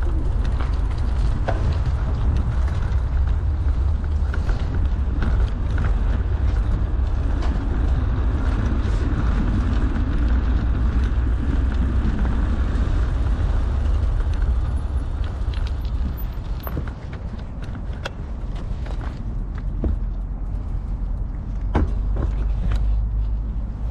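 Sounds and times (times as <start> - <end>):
bicycle rolling on pavement: 0.0 - 23.9
wind buffeting microphone: 0.0 - 23.9.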